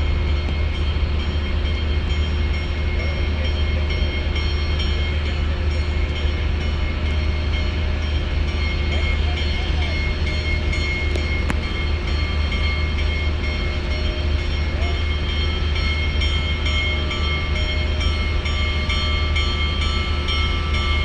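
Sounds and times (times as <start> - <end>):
train rolling on rails: 0.0 - 21.0.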